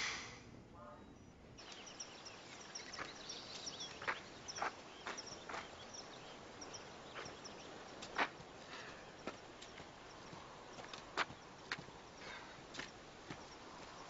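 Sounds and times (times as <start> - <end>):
small birds chirping: 0.0 - 14.0
footsteps on dirt path: 1.6 - 14.0.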